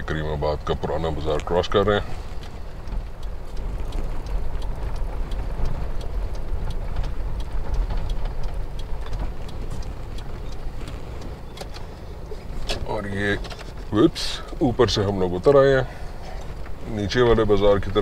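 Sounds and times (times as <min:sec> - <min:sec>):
light clicks and taps: 0:00.0 - 0:18.0
wind rumble: 0:00.0 - 0:18.0.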